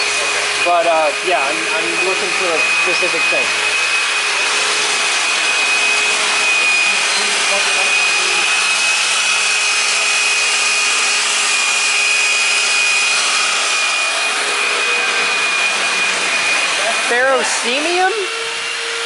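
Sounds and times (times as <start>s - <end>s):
shop machine running: 0.0s - 19.0s.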